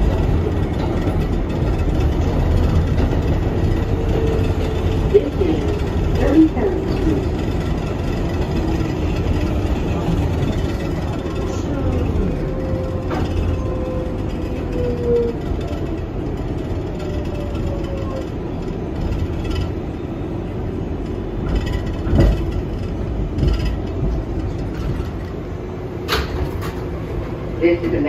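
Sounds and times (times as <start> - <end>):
wheels knocking and clacking: 0.0 - 27.0
subway train rumble: 0.0 - 28.0.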